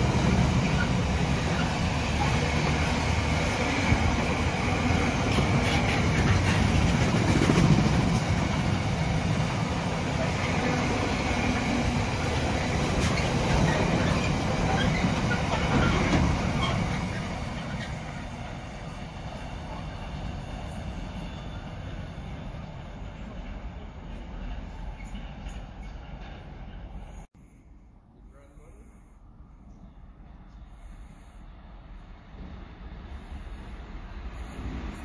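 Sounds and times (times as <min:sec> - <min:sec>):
train running on tracks: 0:00.0 - 0:27.6, 0:28.3 - 0:35.0.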